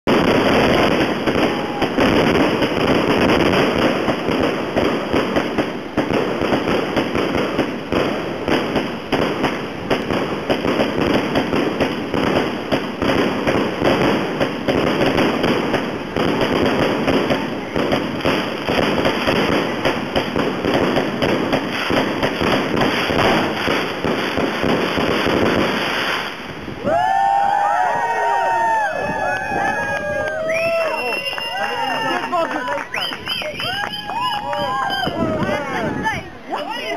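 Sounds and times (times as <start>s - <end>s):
fireworks bangs and crackling: 0.1s - 36.9s.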